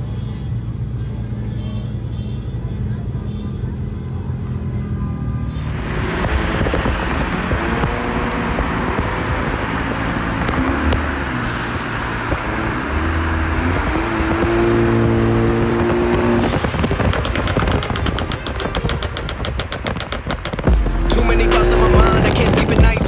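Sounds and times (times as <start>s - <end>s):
car engines revving: 0.5s - 23.0s.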